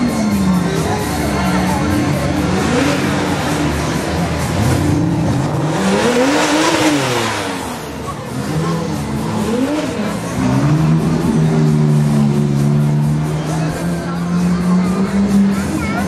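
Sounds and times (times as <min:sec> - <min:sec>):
sports car engines revving: 0:00.0 - 0:16.0.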